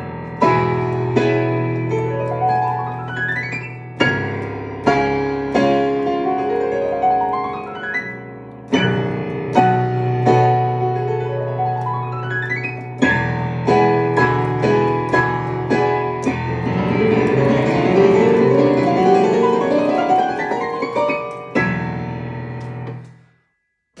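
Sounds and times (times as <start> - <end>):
solo piano arpeggios: 0.0 - 23.1.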